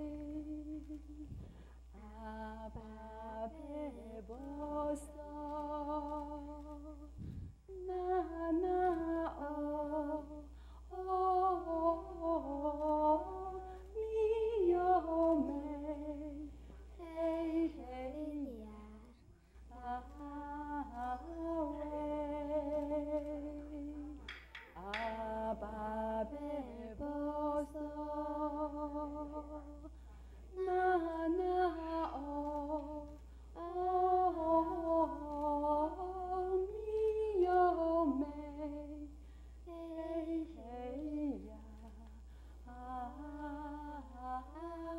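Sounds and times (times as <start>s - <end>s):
slow vocal melody: 0.0s - 44.9s.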